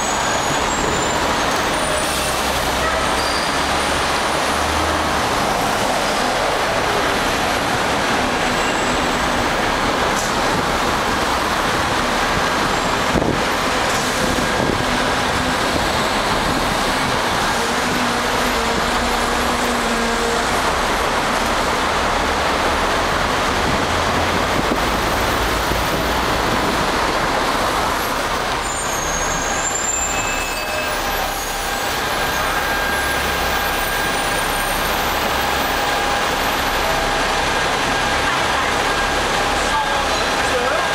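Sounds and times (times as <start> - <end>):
road traffic: 0.0 - 40.9
tram running: 0.0 - 40.9.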